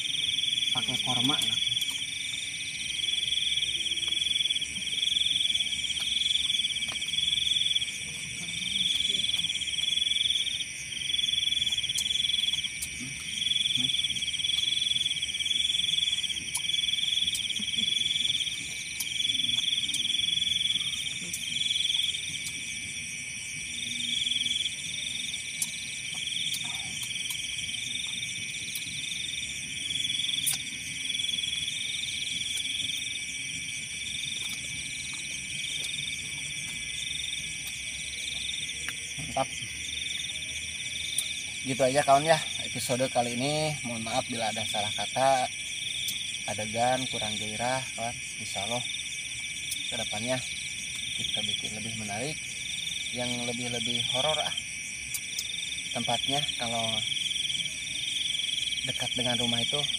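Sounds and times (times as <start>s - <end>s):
crickets trilling: 0.0s - 59.9s
pulsing insect trill: 0.0s - 59.9s.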